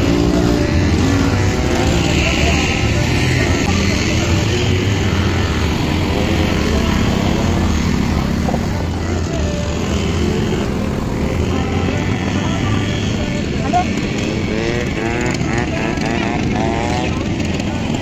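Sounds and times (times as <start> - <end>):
dune buggy engine droning: 0.0 - 18.0.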